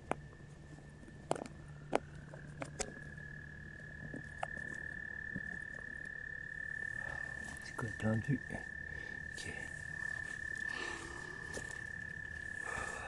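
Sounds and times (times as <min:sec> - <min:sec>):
frog trilling: 0:01.3 - 0:13.0.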